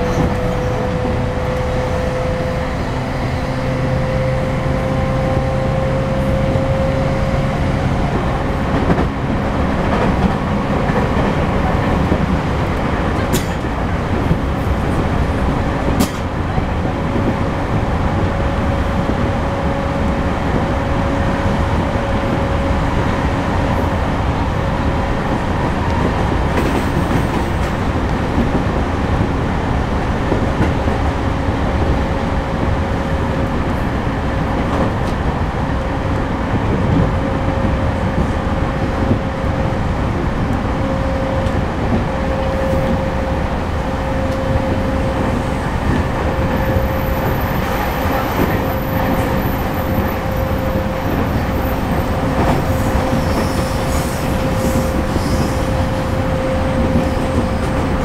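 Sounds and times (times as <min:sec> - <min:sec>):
train motor hum: 0:00.0 - 0:58.0
wheels rumbling on rail: 0:00.0 - 0:58.0.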